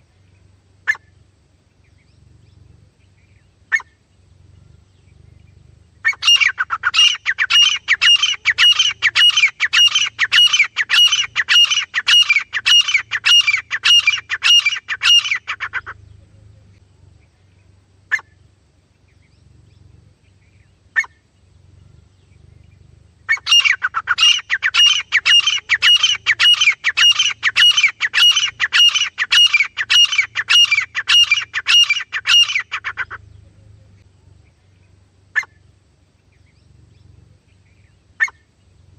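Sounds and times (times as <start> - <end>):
francolin harsh calls: 0.0 - 38.9.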